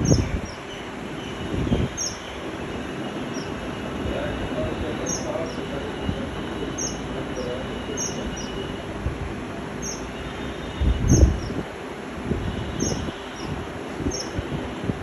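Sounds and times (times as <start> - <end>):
small birds chirping: 0.0 - 8.9, 9.7 - 11.7, 12.5 - 14.8
steady rumbling background noise: 0.0 - 15.0.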